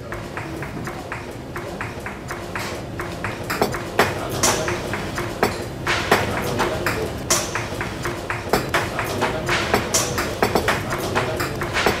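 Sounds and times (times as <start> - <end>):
rhythmic tapping and clinking: 0.0 - 12.0.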